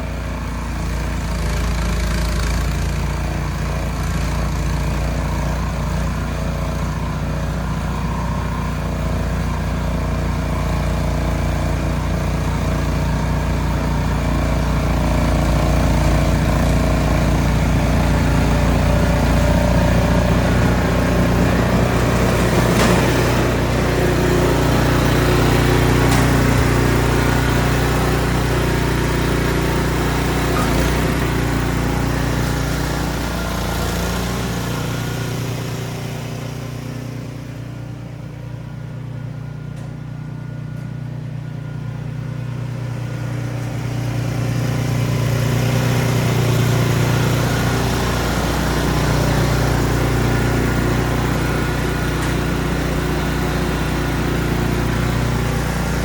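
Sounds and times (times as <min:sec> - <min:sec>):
snow blower engine hum: 0:00.0 - 0:56.0.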